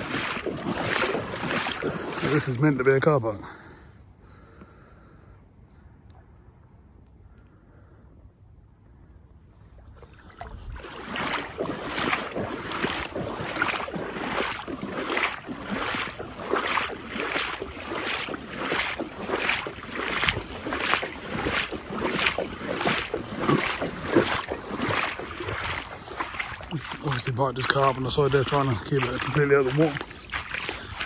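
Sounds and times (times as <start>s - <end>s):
footsteps wading through water: 0.0s - 4.9s, 9.7s - 31.0s.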